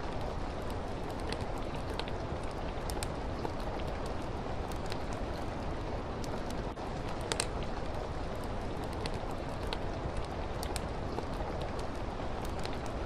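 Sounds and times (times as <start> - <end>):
steady rain falling: 0.0 - 13.0
wood fire crackling and popping: 0.0 - 13.0.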